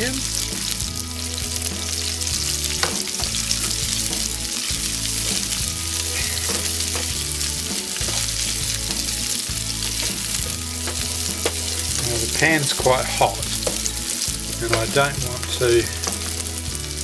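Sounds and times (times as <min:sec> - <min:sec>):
onions sizzling in oil: 0:00.0 - 0:17.0
utensil clicking against pan: 0:02.7 - 0:16.8.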